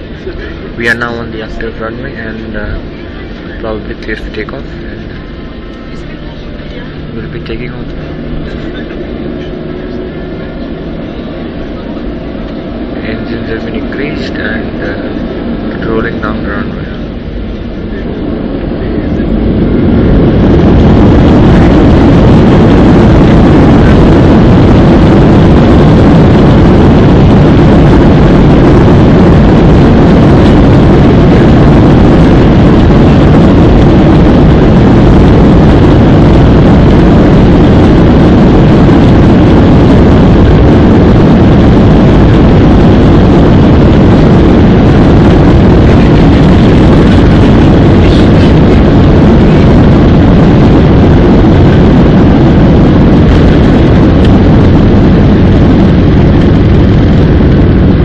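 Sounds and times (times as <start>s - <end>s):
jet engine roar from cabin: 0.0s - 58.0s.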